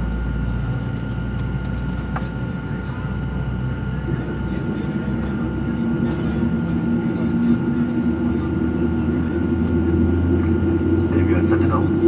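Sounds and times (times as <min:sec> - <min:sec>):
airplane cabin engine hum: 0:00.0 - 0:12.0.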